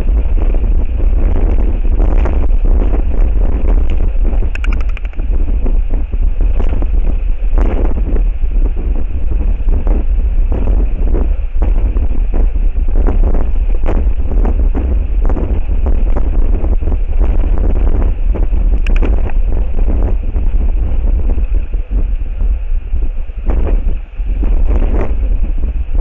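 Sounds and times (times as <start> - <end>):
gusty wind on microphone: 0.0 - 26.0.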